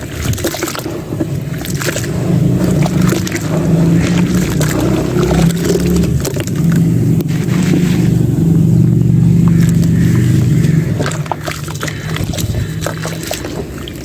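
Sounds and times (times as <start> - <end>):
clay churning in water: 0.0 - 14.0.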